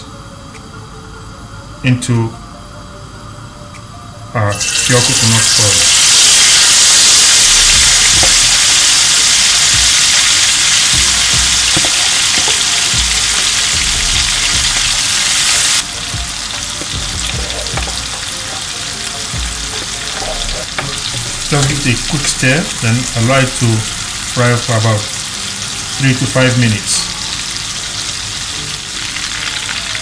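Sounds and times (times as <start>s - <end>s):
shrimps sizzling in a wok: 4.5s - 30.0s.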